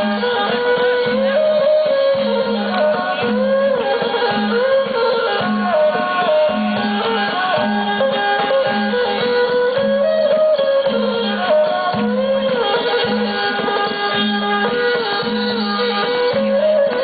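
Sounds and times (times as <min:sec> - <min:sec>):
hand drum beat: 0:00.0 - 0:17.0
sliding wavering folk melody: 0:00.0 - 0:17.0.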